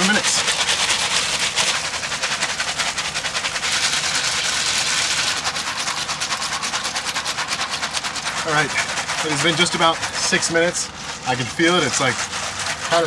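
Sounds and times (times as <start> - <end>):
ice rattling in plastic bag: 0.0 - 13.0.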